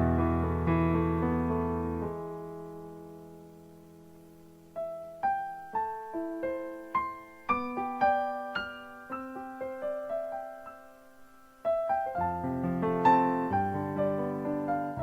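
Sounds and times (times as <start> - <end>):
soft slow solo piano: 0.0 - 15.0.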